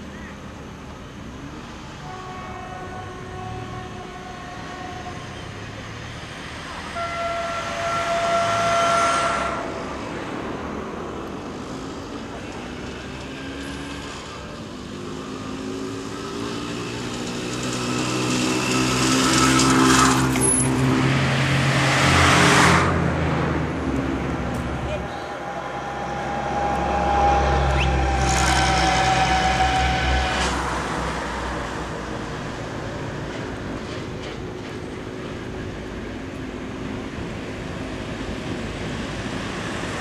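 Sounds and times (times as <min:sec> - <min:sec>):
distant diesel railcar: 0:00.0 - 0:40.0
road vehicles passing: 0:00.0 - 0:40.0.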